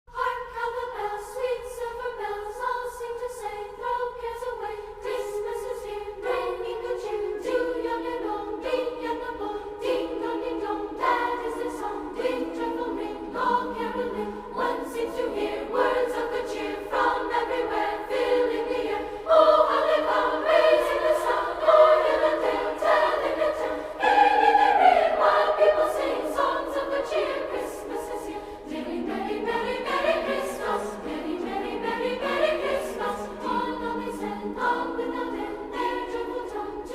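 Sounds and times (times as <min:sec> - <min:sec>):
choir-like voices singing: 0:00.1 - 0:36.9.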